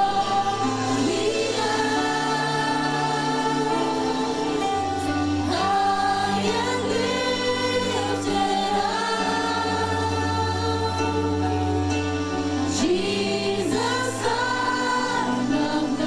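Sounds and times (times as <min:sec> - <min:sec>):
gospel vocal group singing: 0:00.0 - 0:16.0.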